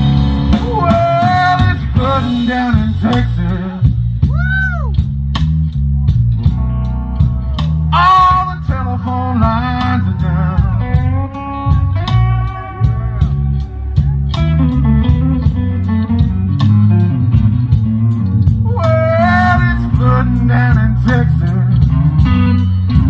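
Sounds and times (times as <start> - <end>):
electric lead guitar: 0.0 - 23.0
live blues band: 0.0 - 23.0.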